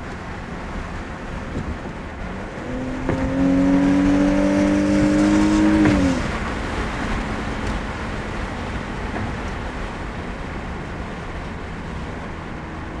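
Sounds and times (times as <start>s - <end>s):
car engine running: 0.0s - 13.0s
road and wind noise: 0.0s - 13.0s.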